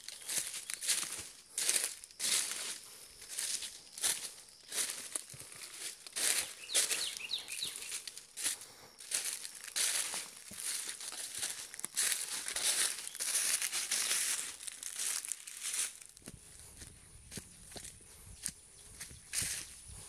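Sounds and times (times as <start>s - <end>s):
footsteps crunching through dry leaves: 0.0s - 20.0s.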